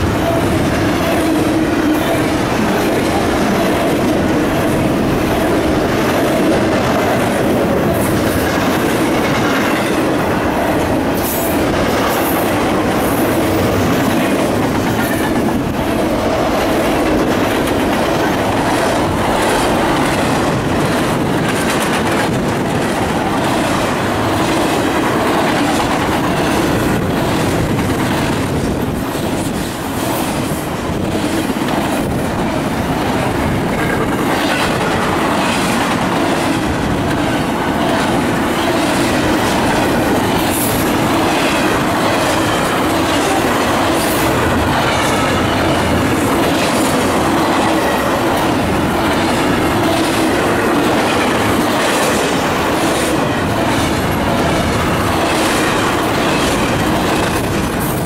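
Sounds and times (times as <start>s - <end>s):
freight train wheels rumbling: 0.0s - 58.0s
wheels clicking over rail joints: 0.0s - 58.0s.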